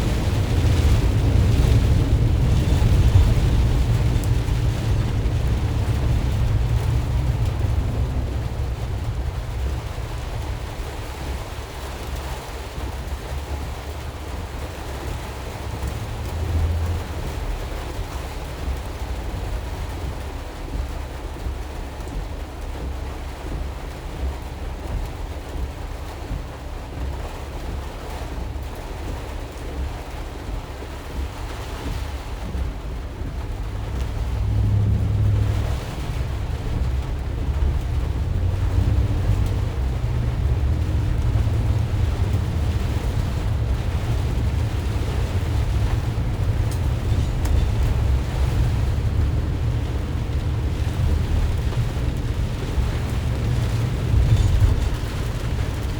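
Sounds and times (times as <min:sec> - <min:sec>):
heavy rain: 0:00.0 - 0:55.9
road and wind noise rumble: 0:00.0 - 0:55.9
tyres hissing on wet pavement: 0:00.0 - 0:55.9.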